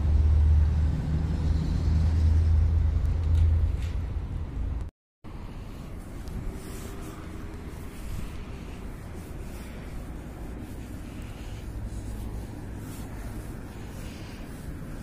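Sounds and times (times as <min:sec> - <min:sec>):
distant traffic: 0:00.0 - 0:15.0
wind rumble: 0:00.0 - 0:15.0.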